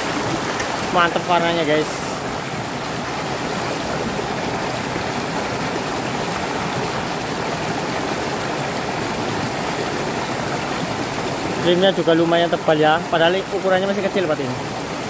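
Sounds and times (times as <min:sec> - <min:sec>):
small waterfall splashing: 0:00.0 - 0:15.0.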